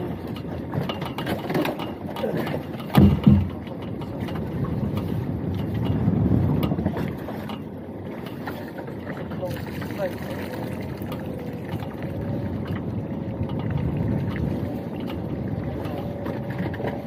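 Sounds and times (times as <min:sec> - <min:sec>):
knocks and thumps on a boat: 0:00.0 - 0:17.0
water noise: 0:00.0 - 0:17.0
wind: 0:00.0 - 0:17.0.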